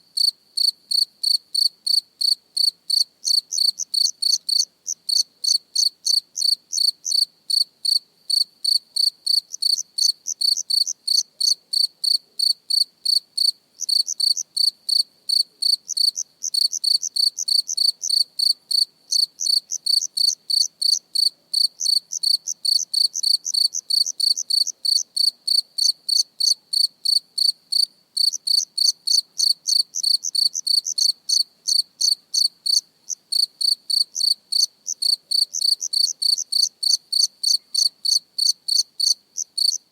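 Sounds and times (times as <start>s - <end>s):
cricket chirping: 0.2s - 39.9s.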